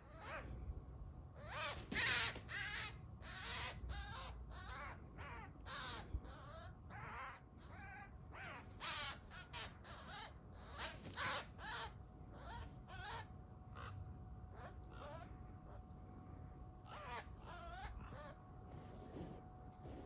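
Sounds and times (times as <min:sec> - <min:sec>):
magpie harsh distress calls: 0:00.0 - 0:00.6, 0:01.4 - 0:15.8, 0:16.8 - 0:18.4.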